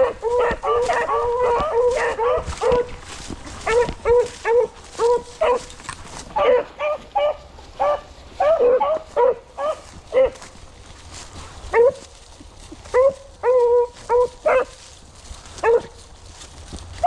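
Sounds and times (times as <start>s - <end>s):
hounds barking: 0.0s - 10.6s, 11.6s - 12.2s, 12.8s - 14.9s, 15.5s - 16.1s.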